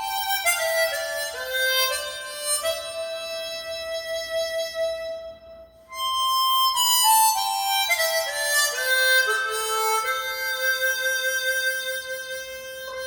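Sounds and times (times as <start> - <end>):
harmonica playing: 0.0 - 13.0.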